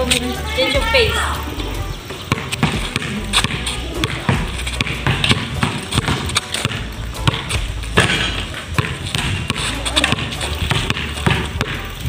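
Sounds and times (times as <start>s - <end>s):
basketball bouncing on concrete: 0.0s - 12.0s.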